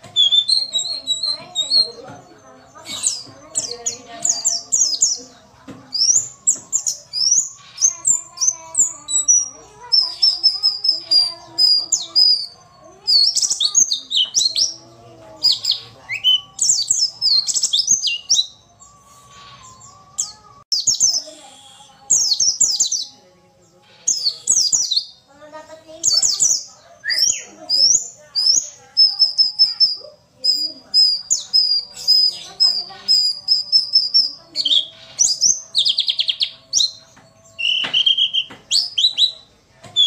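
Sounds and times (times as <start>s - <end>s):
bird chirping high sharp notes: 0.0s - 40.0s.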